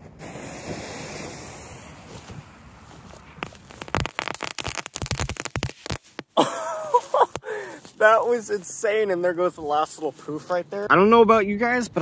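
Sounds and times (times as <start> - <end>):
firework crackles and pops: 0.0 - 10.6.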